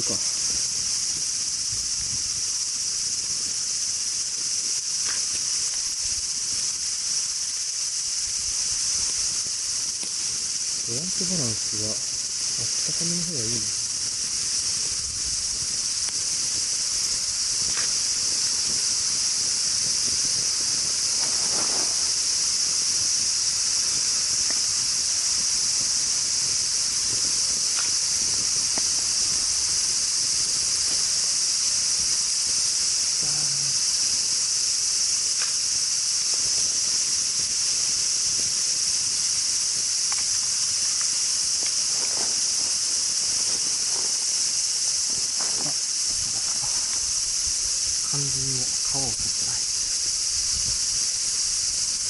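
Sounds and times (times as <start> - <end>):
high-pitched insect chorus: 0.0 - 52.0.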